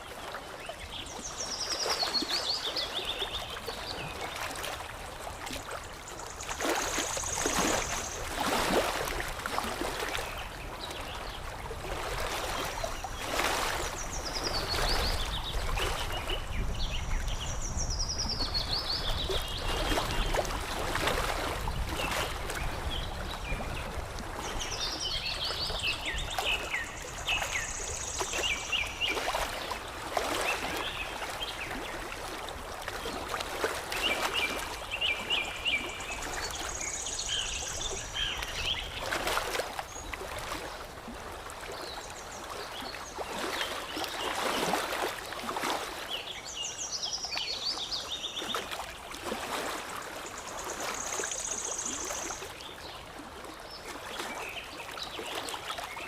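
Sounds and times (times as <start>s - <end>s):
water lapping and splashing: 0.0s - 56.0s.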